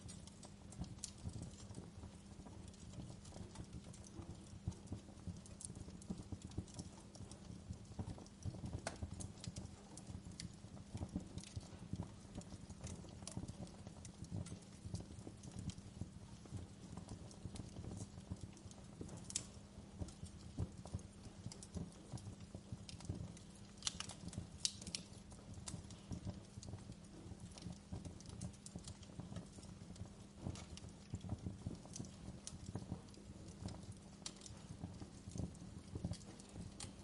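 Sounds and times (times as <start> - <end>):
low rumble of flames: 0.0 - 37.0
wood fire crackling: 0.0 - 37.0.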